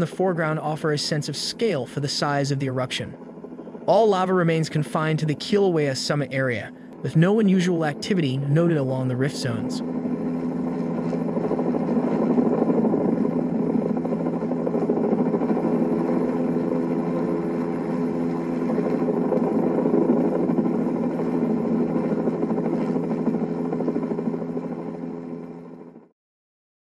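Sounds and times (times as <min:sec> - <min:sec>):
helicopter flying low: 0:00.0 - 0:26.1.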